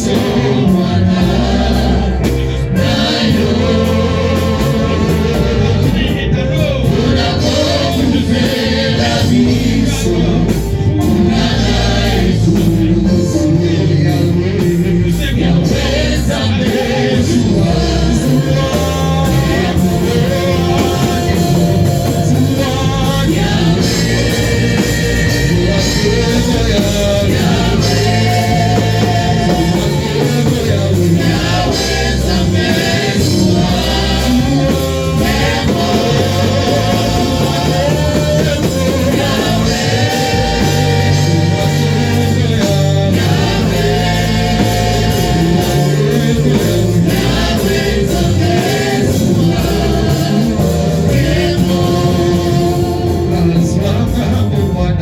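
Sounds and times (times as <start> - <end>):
gospel worship singing with band: 0.0 - 55.0.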